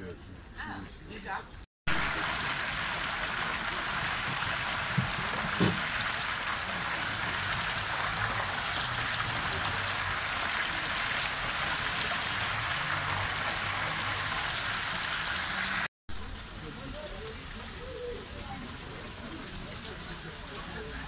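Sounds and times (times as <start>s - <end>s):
oil sizzling in deep fryer: 1.9s - 21.0s.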